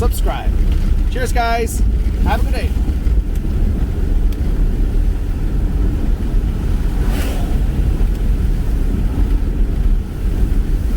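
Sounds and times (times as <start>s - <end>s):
car interior road and engine rumble: 0.0s - 10.9s.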